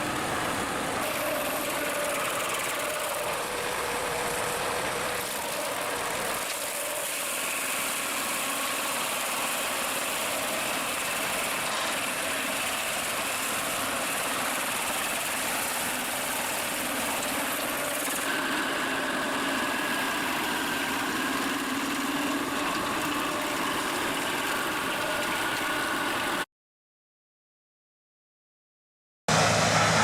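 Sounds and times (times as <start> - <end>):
stump grinder engine running: 0.0 - 26.4, 29.3 - 30.0.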